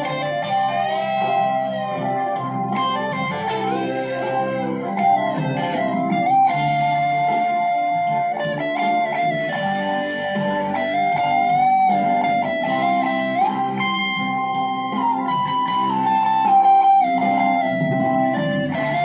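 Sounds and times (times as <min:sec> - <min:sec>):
electric guitar lead line: 0:00.0 - 0:19.0.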